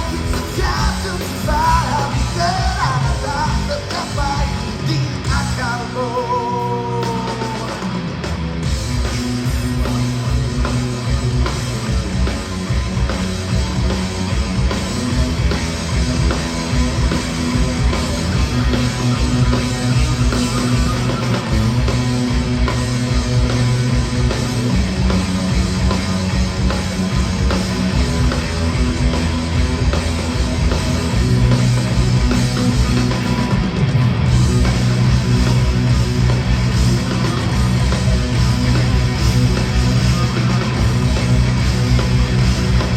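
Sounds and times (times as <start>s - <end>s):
drum kit beat: 0.0s - 42.9s
electric guitar: 0.0s - 42.9s.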